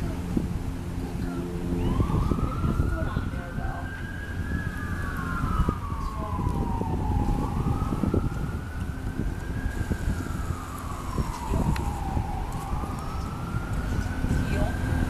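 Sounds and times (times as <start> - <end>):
emergency vehicle siren wailing: 0.0 - 15.0
low traffic rumble: 0.0 - 15.0.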